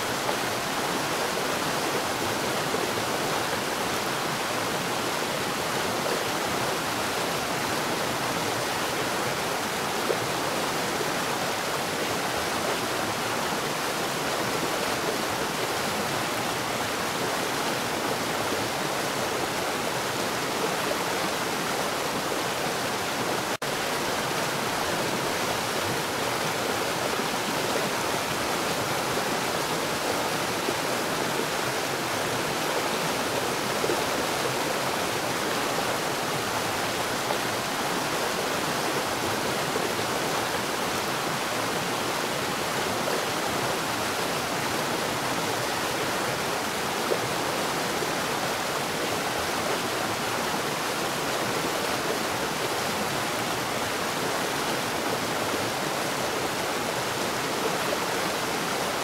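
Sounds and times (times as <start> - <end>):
water rushing and splashing: 0.0 - 59.0.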